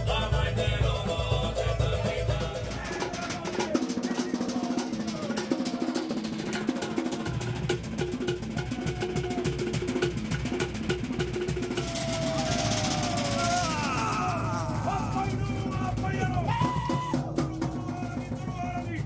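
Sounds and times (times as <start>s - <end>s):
fast drumming on log and skin drums: 0.0s - 19.0s.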